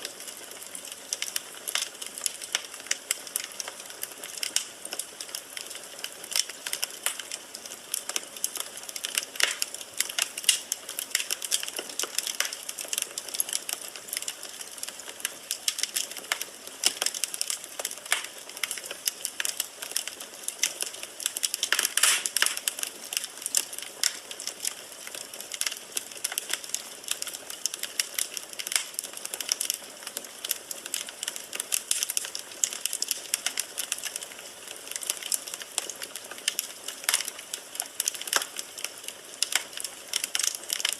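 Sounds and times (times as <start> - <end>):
firewood crackling and snapping: 0.0 - 40.9.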